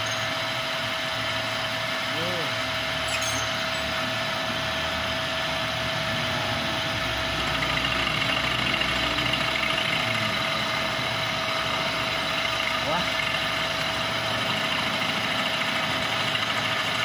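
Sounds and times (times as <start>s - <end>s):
workshop machinery whining: 0.0s - 17.0s.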